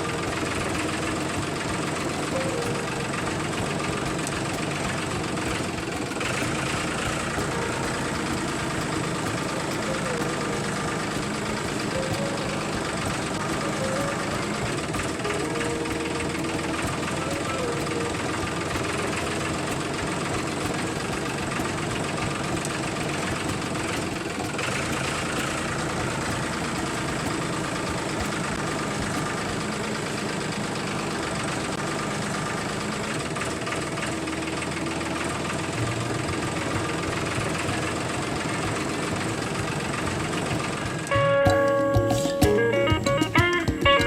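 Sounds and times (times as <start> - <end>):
small motor rattling: 0.0 - 44.0.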